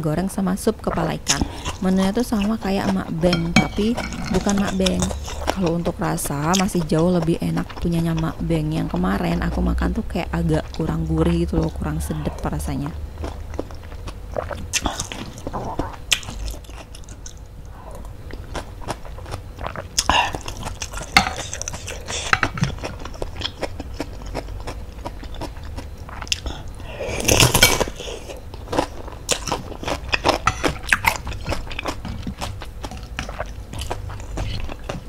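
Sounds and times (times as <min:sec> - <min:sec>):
wet chewing with mouth clicks: 0:00.9 - 0:35.0.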